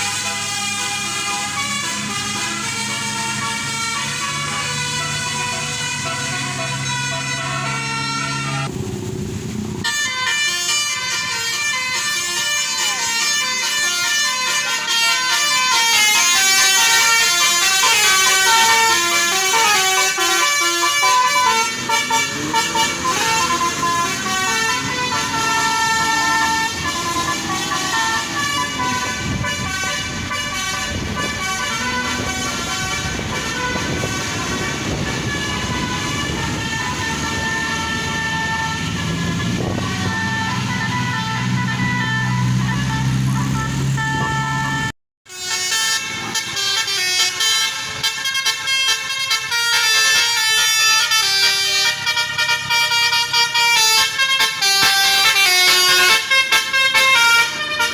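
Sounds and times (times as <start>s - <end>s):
bus musical horn melody: 0.0s - 8.7s, 9.8s - 57.9s.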